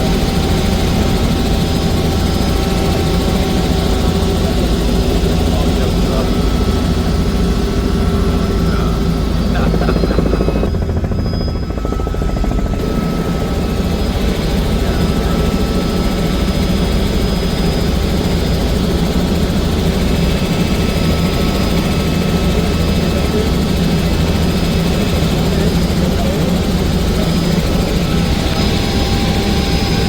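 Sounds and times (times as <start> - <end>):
helicopter rotor chopping: 0.0 - 30.0.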